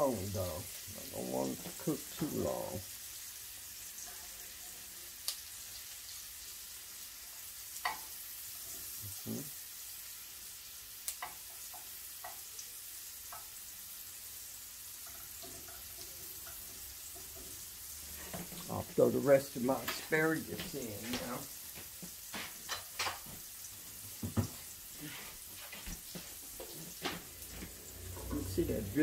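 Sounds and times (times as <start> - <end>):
fish sizzling in oil: 0.0 - 29.0.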